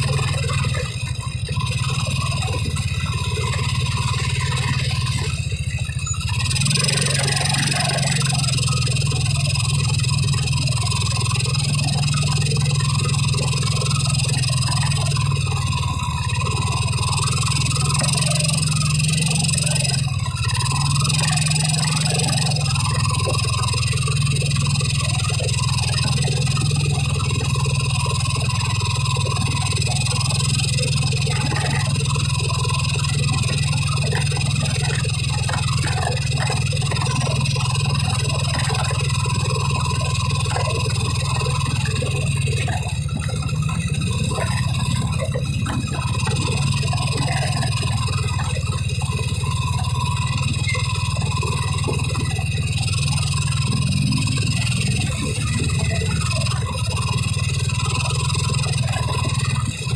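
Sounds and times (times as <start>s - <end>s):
car engine and road hum: 0.0s - 59.9s.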